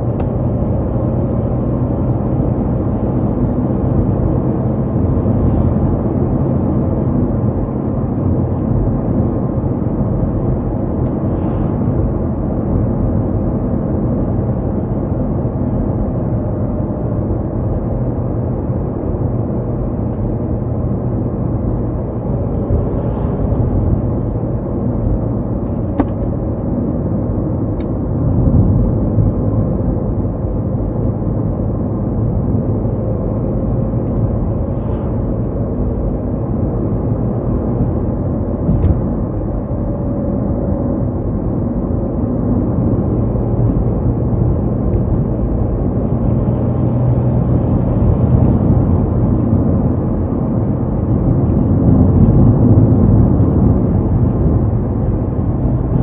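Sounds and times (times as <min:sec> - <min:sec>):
tyre and road noise: 0:00.0 - 0:56.0.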